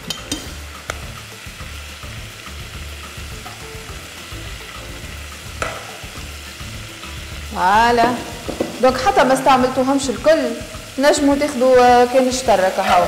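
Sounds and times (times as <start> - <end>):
meatballs sizzling in oil: 0.0 - 13.0.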